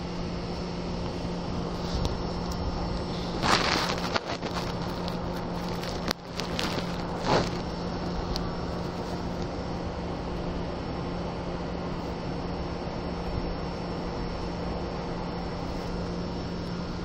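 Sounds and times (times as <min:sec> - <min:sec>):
train equipment hum: 0:00.0 - 0:17.0.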